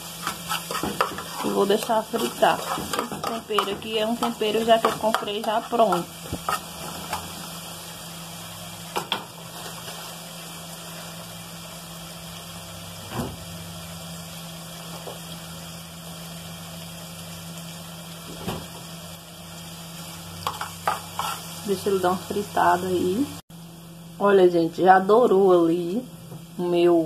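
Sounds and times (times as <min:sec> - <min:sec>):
onion and garlic sizzling in oil: 0:00.0 - 0:27.0.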